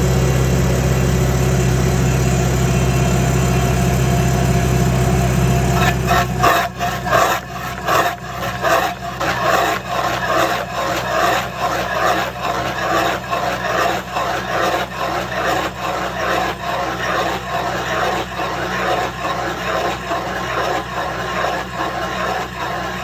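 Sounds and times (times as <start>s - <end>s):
machine low drone: 0.0s - 23.0s
stump grinder shredding wood: 0.0s - 23.0s.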